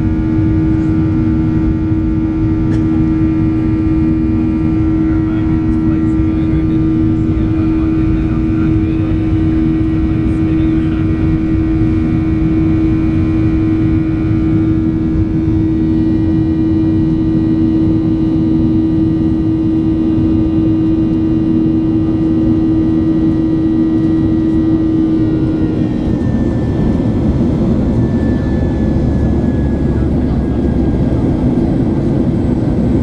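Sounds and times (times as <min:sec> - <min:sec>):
jet engines roaring: 0:00.0 - 0:33.0.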